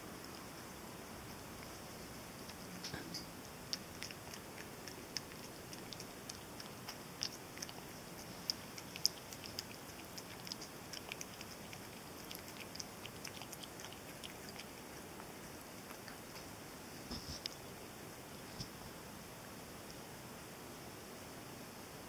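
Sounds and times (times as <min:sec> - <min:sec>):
cat lapping and chewing: 0:00.0 - 0:20.1.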